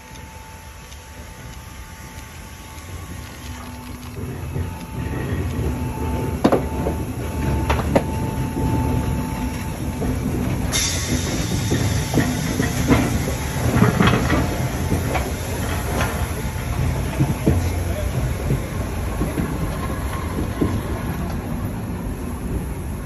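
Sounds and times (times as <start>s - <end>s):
steam hissing: 0.0s - 23.0s
steam locomotive rumbling past: 0.0s - 23.0s.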